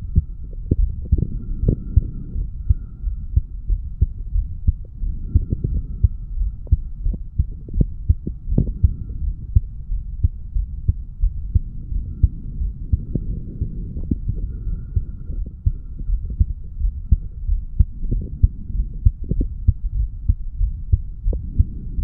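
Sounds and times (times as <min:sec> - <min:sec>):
continuous low rumble: 0:00.0 - 0:22.0
heartbeat thuds: 0:00.0 - 0:22.0.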